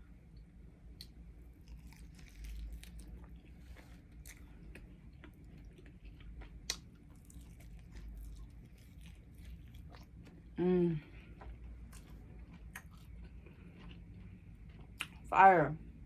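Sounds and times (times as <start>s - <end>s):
chewing and biting: 1.0s - 10.6s, 11.2s - 15.3s.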